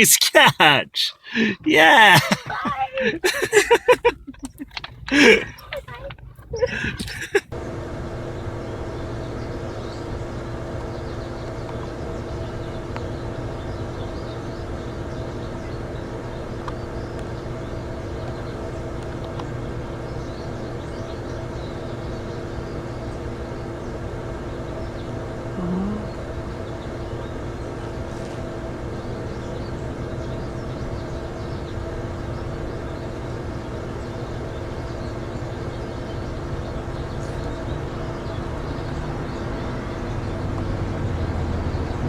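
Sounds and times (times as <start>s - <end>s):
low mechanical drone: 2.2s - 42.0s.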